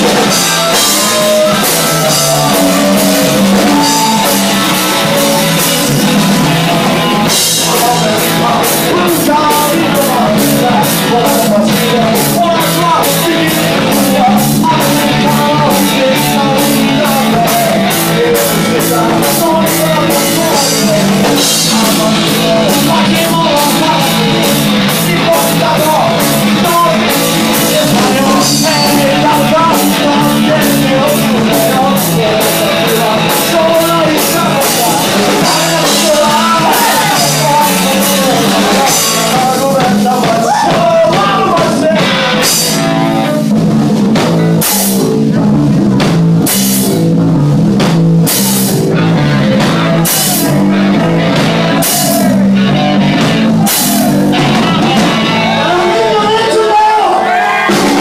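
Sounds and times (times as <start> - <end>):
person singing: 0.0 - 43.6, 48.9 - 58.0
drum kit: 0.0 - 58.0
electric bass: 0.0 - 58.0
electric guitar: 0.0 - 58.0.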